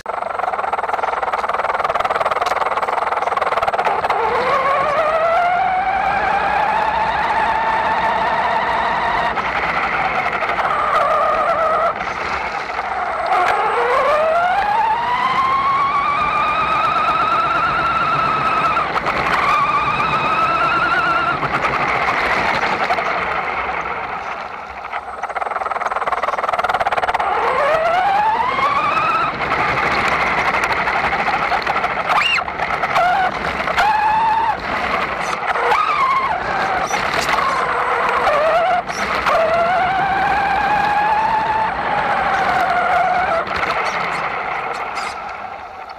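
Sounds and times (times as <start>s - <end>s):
rc truck motor whining: 0.0s - 45.9s.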